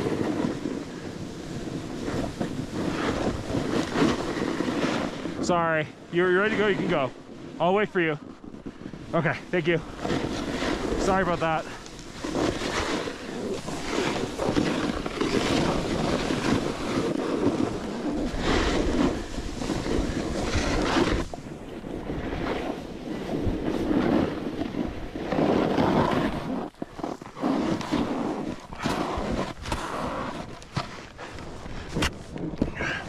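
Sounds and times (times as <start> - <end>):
snowboard scraping over snow: 0.0 - 33.0
wind buffeting microphone: 0.0 - 33.0.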